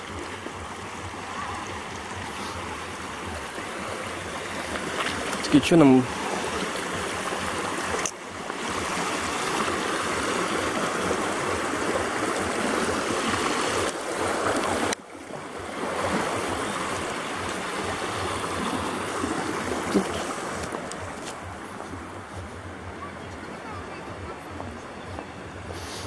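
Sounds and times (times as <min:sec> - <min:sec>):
river water rushing over rocks: 0:00.0 - 0:25.8.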